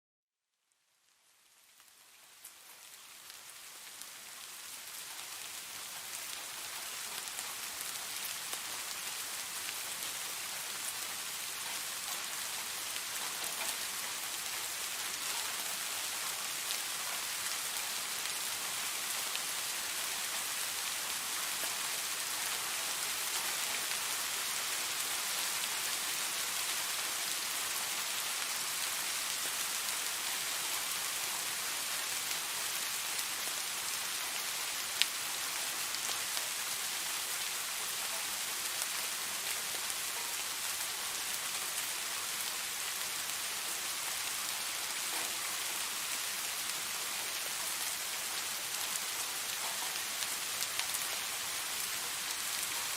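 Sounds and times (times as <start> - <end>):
steady rain patter: 0.8 - 52.9.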